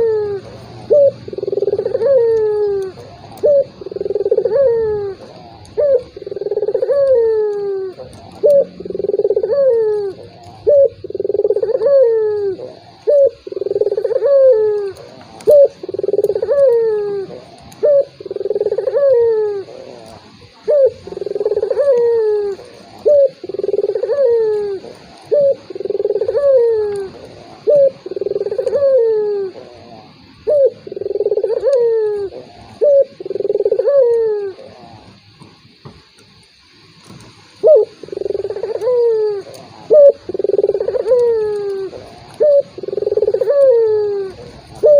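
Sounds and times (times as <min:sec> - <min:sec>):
dove cooing: 0:00.0 - 0:36.3, 0:37.0 - 0:44.9.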